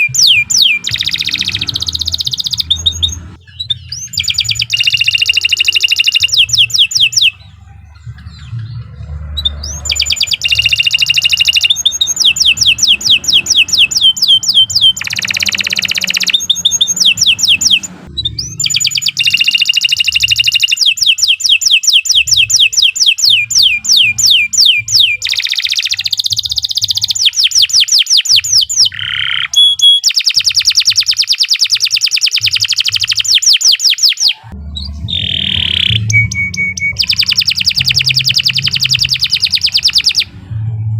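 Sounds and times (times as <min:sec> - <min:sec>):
canary trilling song: 0:00.0 - 0:40.9.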